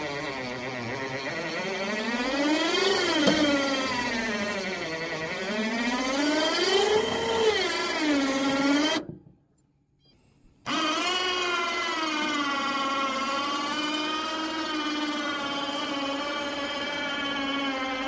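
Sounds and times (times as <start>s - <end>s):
electric winch motor whining: 0.0s - 9.2s, 10.6s - 18.0s.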